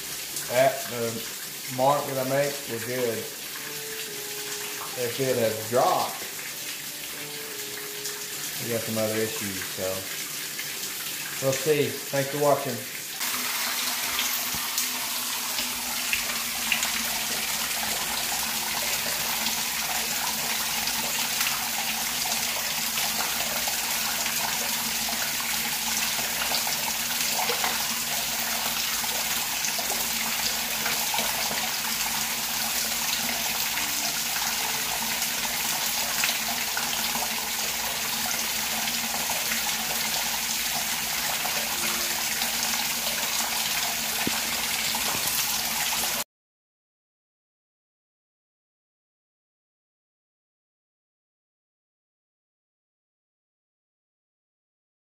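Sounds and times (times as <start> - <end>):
shower spraying water: 0.0 - 46.2.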